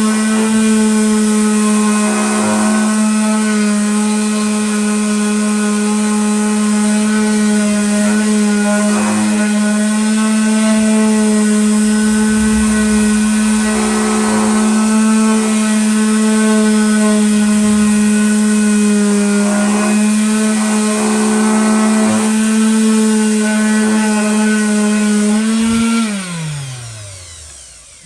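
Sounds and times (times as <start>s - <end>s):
electric sander running: 0.0s - 28.0s
sander motor spinning down: 0.0s - 28.0s.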